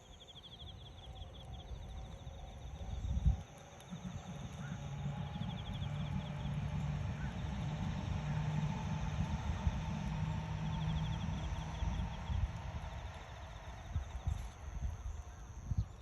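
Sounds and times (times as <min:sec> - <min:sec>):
steady low hum: 0:00.0 - 0:16.0
low rumble: 0:01.0 - 0:16.0.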